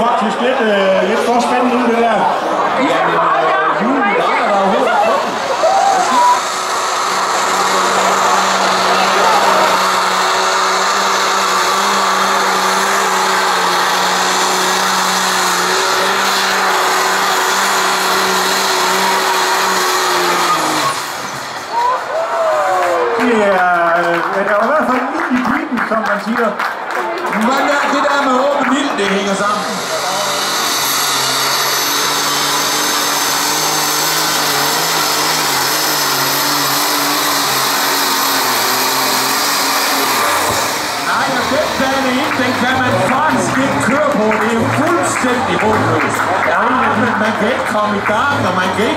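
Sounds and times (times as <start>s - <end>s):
tractor engine at full throttle: 0.0s - 26.4s, 27.4s - 48.9s.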